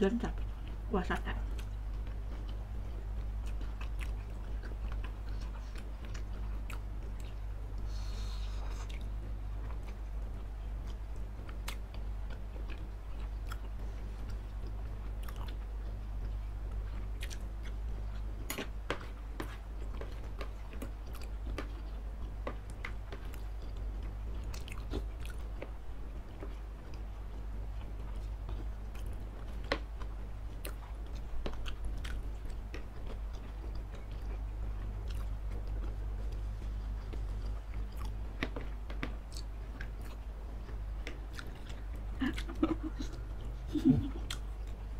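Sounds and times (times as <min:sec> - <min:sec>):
steady low hum: 0:00.0 - 0:44.9
close chewing and biting: 0:00.2 - 0:44.9.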